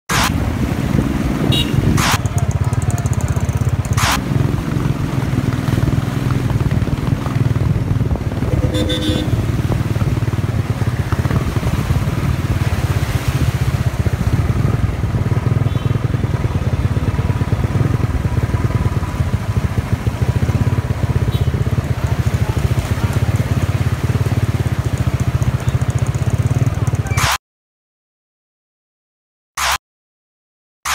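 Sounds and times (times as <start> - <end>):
motorcycle engine at low revs: 0.1 - 27.3.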